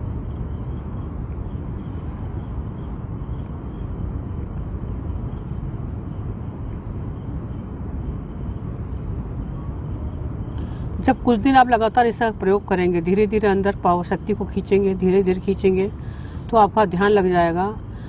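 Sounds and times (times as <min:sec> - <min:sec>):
high-pitched insect noise: 0:00.0 - 0:18.0.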